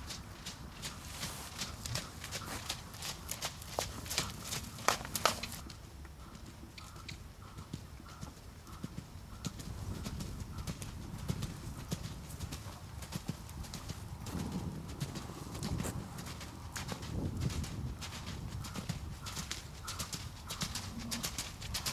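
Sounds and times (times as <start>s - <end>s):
horse hoofbeats on soft dirt: 0.0s - 21.9s.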